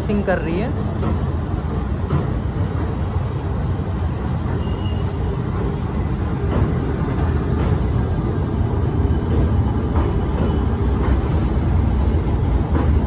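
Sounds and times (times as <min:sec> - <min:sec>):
train rumbling over steel bridge: 0:00.0 - 0:13.0.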